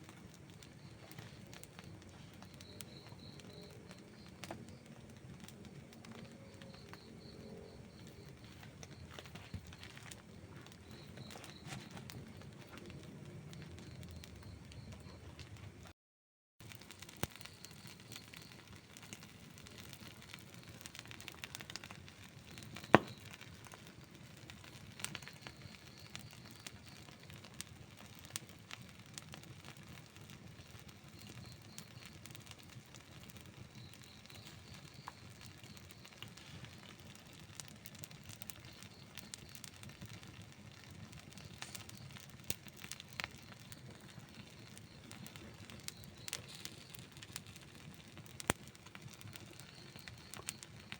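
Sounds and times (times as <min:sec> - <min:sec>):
campfire burning: 0:00.0 - 0:15.9, 0:16.6 - 0:50.9
crackles and pops of fire: 0:00.0 - 0:15.9, 0:16.6 - 0:50.9.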